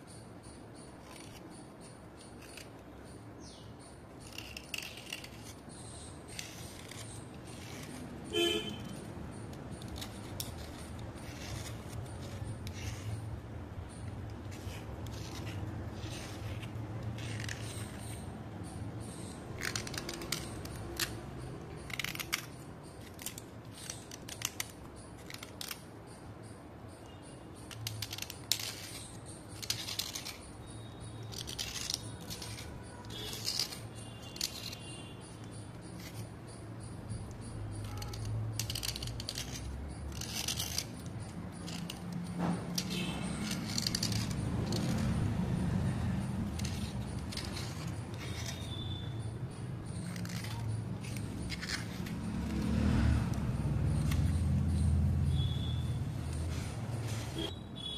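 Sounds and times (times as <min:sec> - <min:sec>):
knife blade scraping slate: 0:01.0 - 0:02.8, 0:03.6 - 0:25.9, 0:27.7 - 0:36.4, 0:37.1 - 0:45.2, 0:45.9 - 0:52.9.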